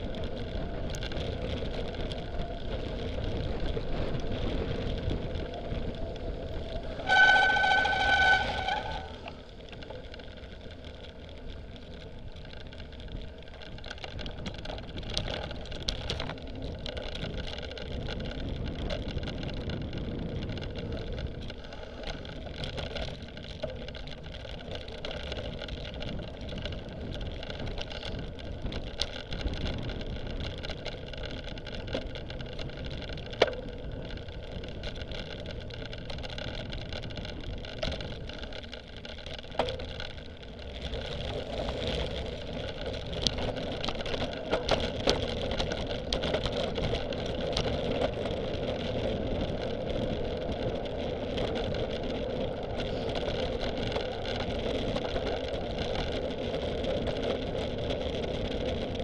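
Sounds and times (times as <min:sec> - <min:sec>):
bike tyres rolling rumble: 0:00.0 - 0:59.0.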